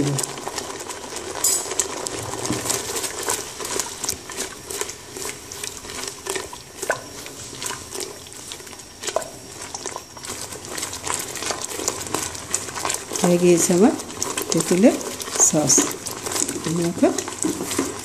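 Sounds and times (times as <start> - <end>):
thick sauce bubbling: 0.0 - 18.0.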